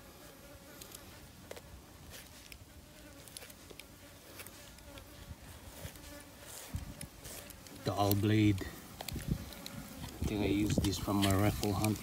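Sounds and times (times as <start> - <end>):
flies buzzing: 0.0 - 12.0.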